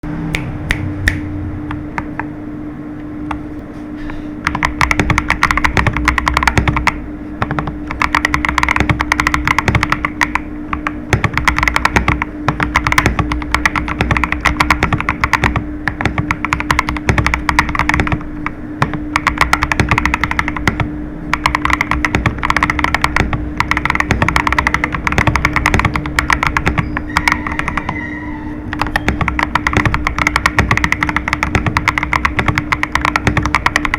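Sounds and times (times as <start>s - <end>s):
mechanical keyboard typing: 4.4s - 28.0s, 28.7s - 33.9s.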